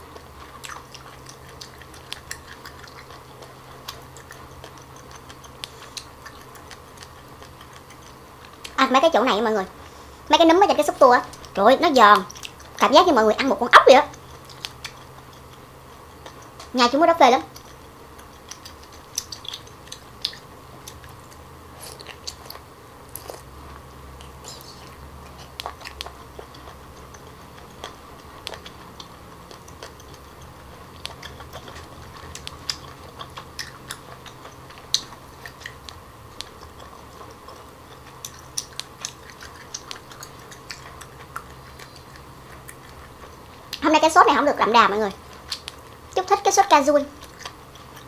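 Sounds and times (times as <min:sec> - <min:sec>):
faint steady hum: 0:00.0 - 0:48.0
wet chewing and mouth clicks: 0:00.0 - 0:48.0.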